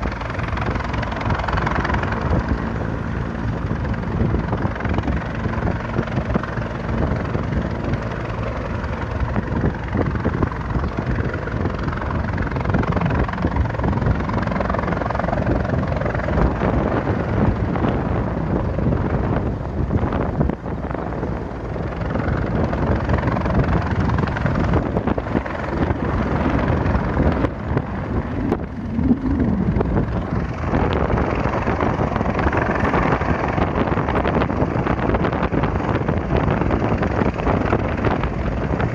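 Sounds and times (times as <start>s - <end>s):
helicopter rotors and engine: 0.0s - 38.9s.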